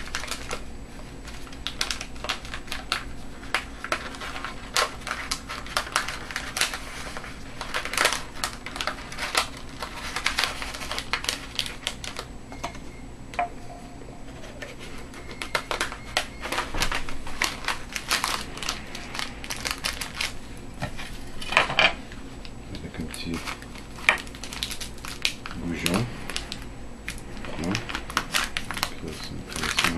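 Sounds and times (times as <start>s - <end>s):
paper crinkling and rustling: 0.0s - 12.3s, 14.4s - 21.5s, 22.2s - 29.9s.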